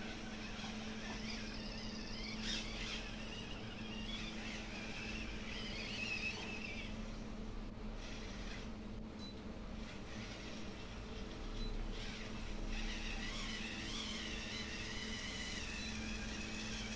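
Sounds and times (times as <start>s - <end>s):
small electric motor whining: 0.0s - 8.8s, 9.8s - 16.9s
steady low hum: 0.0s - 16.9s.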